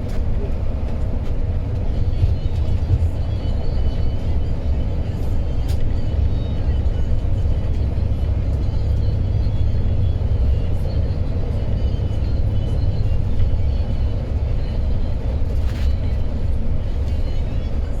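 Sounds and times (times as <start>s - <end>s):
coach driving low rumble: 0.0s - 18.0s.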